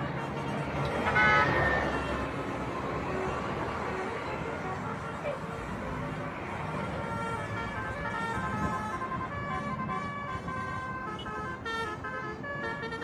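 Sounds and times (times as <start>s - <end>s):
engine and road rumble: 0.0s - 13.0s
multi-tone bus horn tune: 0.0s - 13.0s.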